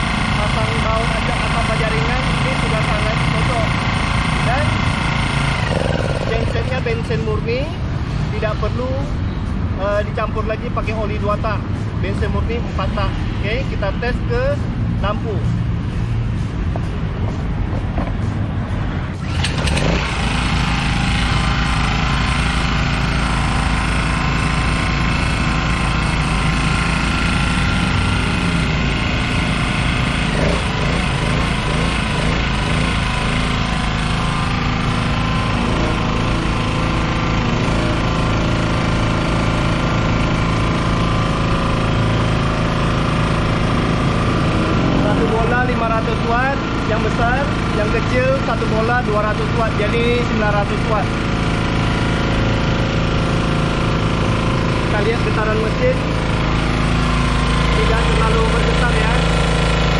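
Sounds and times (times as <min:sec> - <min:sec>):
portable generator running: 0:00.0 - 0:12.5, 0:13.3 - 0:59.9.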